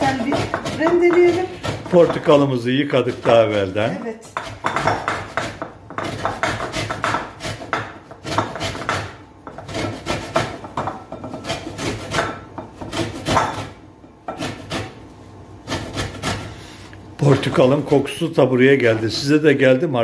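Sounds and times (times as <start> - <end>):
rind rasping on box grater: 0.0 - 16.9.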